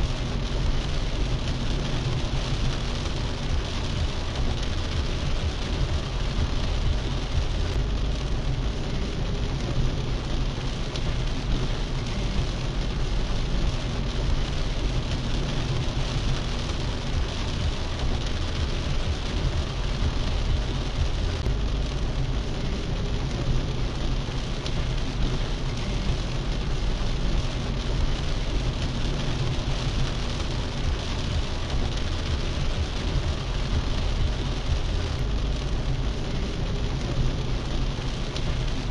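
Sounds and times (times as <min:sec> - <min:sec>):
heavy rain drumming on car roof: 0:00.0 - 0:38.9
low rumble of car: 0:00.0 - 0:38.9.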